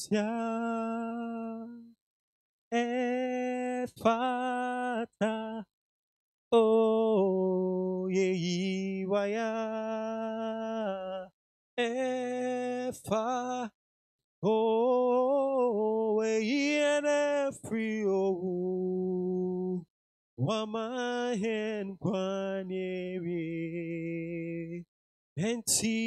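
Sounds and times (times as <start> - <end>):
man singing into a microphone: 0.0 - 2.0, 2.7 - 5.7, 6.5 - 13.8, 14.4 - 26.0.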